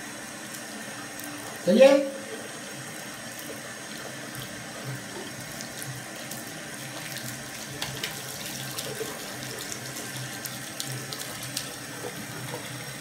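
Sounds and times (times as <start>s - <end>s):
tap running into washbasin: 2.2s - 13.0s.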